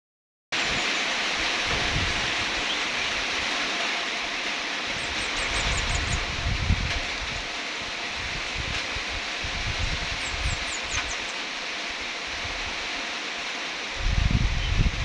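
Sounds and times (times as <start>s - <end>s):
wind gusts rumbling: 0.6s - 13.1s, 13.8s - 15.0s
rain falling: 0.6s - 15.0s.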